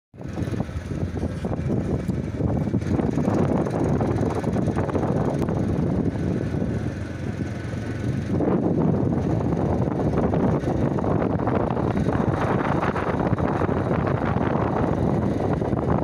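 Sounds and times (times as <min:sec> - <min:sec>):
low rumbling noise: 0:00.2 - 0:16.0.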